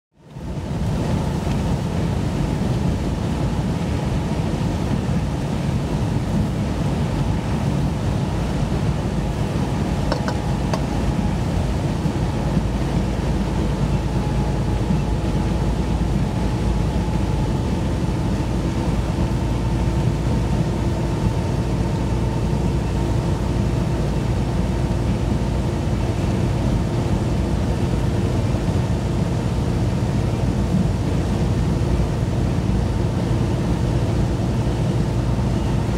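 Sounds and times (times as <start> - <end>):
vehicle engine and tyre rumble: 0.1 - 35.9.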